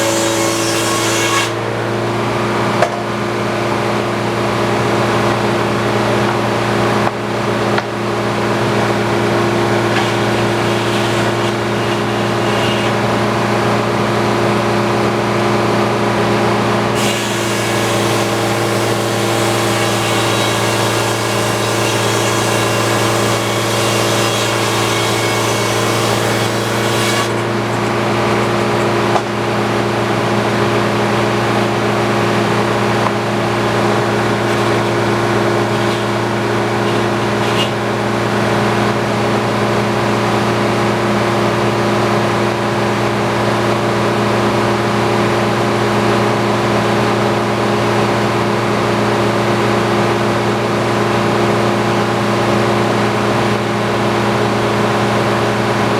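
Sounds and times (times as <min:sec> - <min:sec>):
sawmill engine hum: 0:00.0 - 0:55.9.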